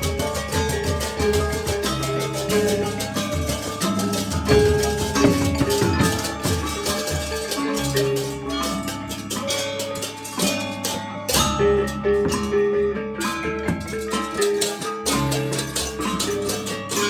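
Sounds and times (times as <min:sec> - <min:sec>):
percussion and melodic ensemble music: 0:00.0 - 0:17.0.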